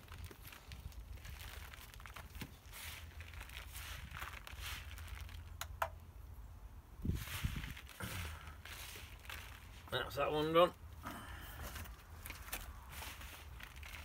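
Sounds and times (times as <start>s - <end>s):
plastic sheet crinkling: 0.0s - 5.8s, 7.1s - 10.9s, 11.6s - 14.0s
hands sifting through damp compost: 0.0s - 5.9s, 7.0s - 14.0s.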